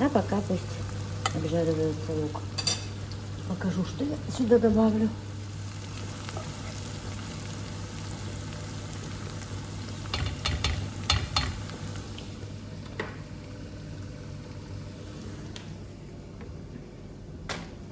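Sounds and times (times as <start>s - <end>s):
onion sizzling in a pan: 0.0s - 15.6s.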